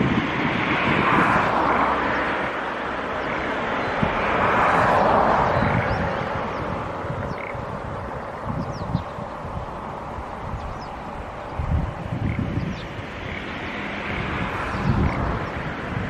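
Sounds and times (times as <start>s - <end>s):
passing vehicles rushing: 0.0s - 16.0s.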